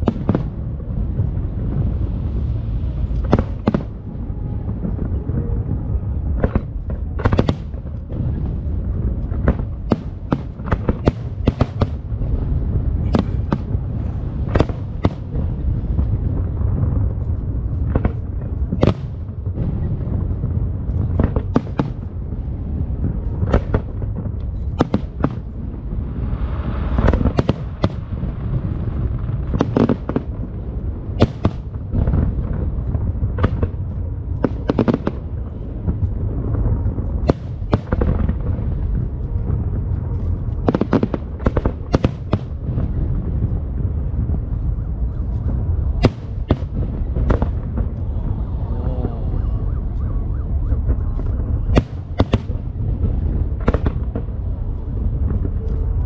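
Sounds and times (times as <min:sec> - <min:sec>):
sharp firework bangs and cracks: 0:00.0 - 0:05.2, 0:06.3 - 0:48.4, 0:50.7 - 0:56.0
low rumble of booming shells: 0:00.0 - 0:56.0.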